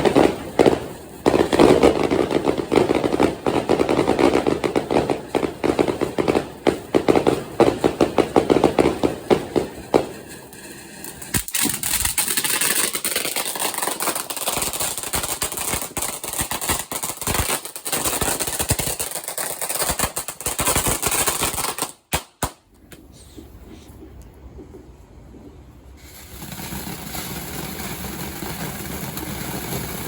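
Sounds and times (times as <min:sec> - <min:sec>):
fireworks crackling: 0:00.0 - 0:22.7, 0:25.9 - 0:30.0.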